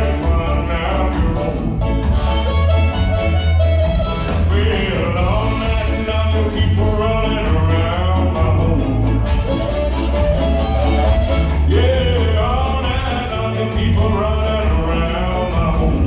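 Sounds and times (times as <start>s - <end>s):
ska band playing: 0.0s - 16.0s.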